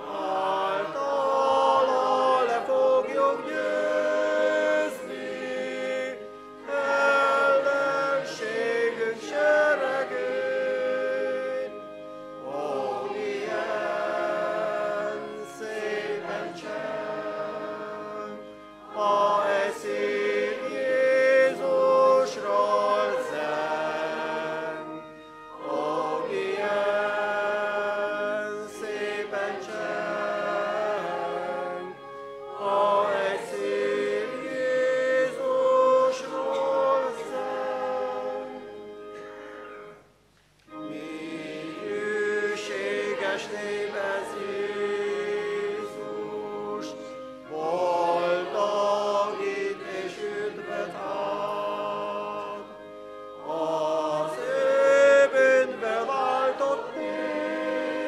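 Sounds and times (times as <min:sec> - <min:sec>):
congregation singing a hymn: 0:00.0 - 0:40.0, 0:40.7 - 0:58.0.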